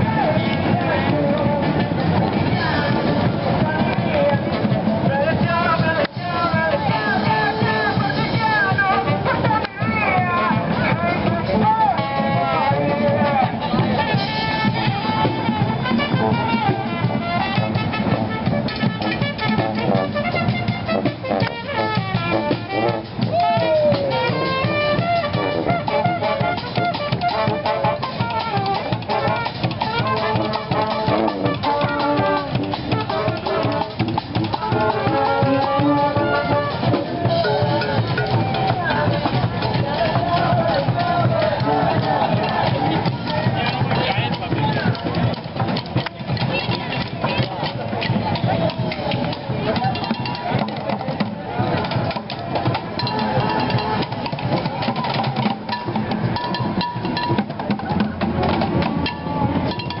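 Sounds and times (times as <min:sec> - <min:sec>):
brass horns: 0:00.0 - 1:00.0
drums: 0:00.0 - 1:00.0
marching band playing: 0:00.0 - 1:00.0.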